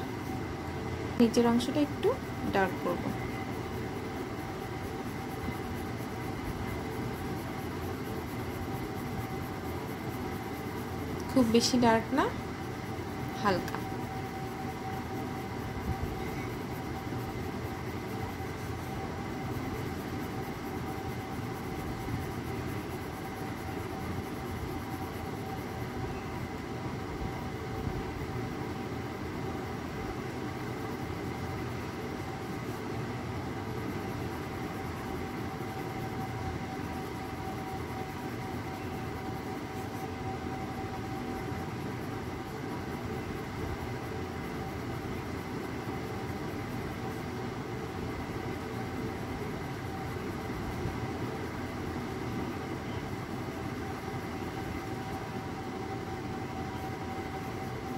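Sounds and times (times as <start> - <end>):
faint constant whine: 0.0 - 57.9.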